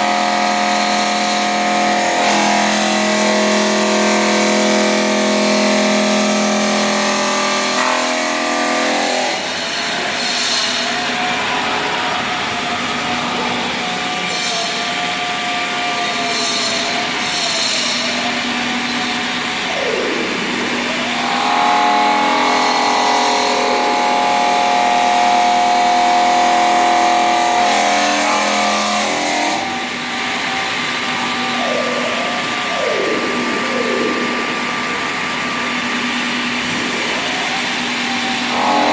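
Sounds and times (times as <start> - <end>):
stone-cutting machine grinding: 0.0 - 31.7, 32.5 - 38.9.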